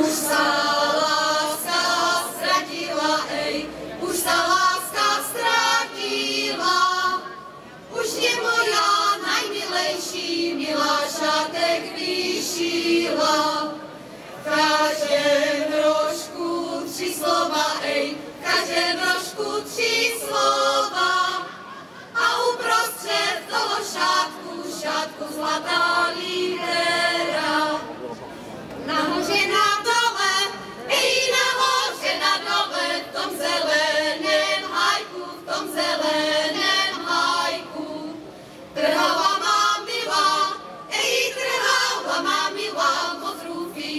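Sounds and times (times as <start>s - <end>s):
women singing together: 0.0s - 27.9s, 28.8s - 43.9s.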